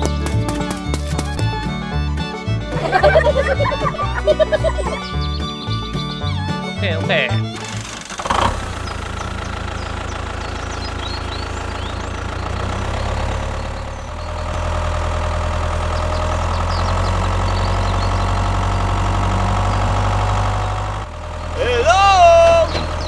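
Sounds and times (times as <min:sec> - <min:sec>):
tractor engine idling: 0:00.0 - 0:23.0.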